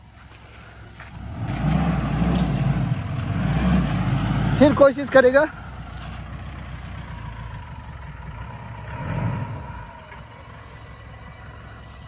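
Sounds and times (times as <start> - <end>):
engine rumbling under load: 0.0 - 12.0.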